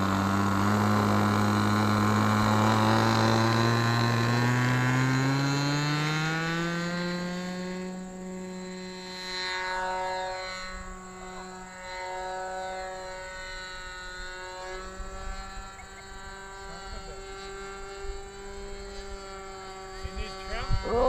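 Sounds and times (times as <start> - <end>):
model aircraft propeller droning: 0.0 - 21.0.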